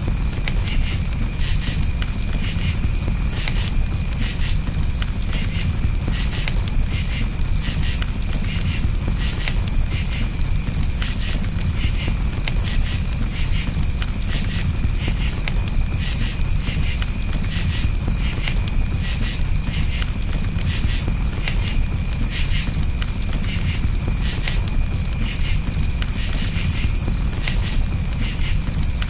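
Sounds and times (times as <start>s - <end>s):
campfire crackling: 0.0s - 29.0s
crickets chirping: 0.0s - 29.0s.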